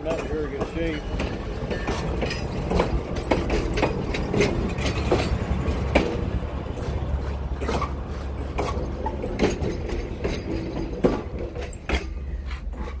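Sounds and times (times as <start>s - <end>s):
low rumble of train: 0.0s - 13.0s
train wheels clacking over rail joints: 0.0s - 13.0s.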